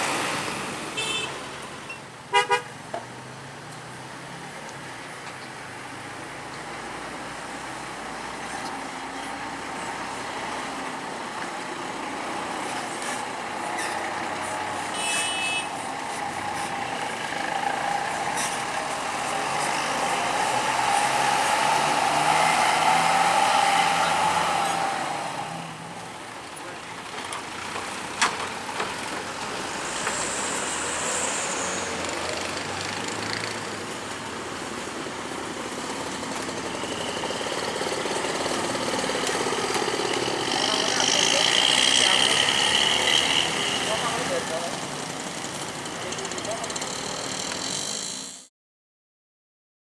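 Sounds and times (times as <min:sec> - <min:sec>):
bus passing by: 0:00.0 - 0:02.7, 0:03.4 - 0:48.5.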